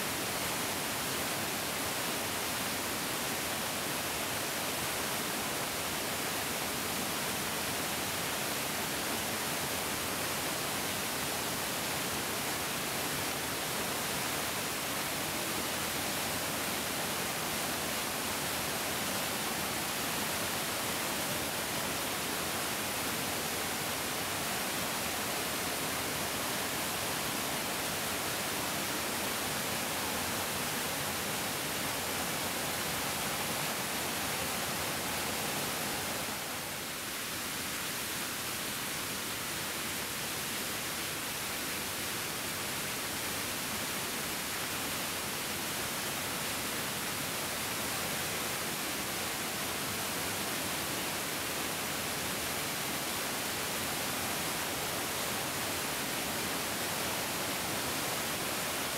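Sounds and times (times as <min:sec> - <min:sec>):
mountain stream flowing: 0:00.0 - 0:58.9.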